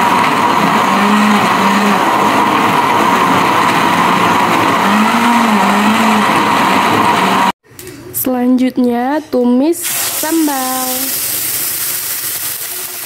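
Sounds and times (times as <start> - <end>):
electric blender running: 0.0 - 7.6, 9.9 - 13.0.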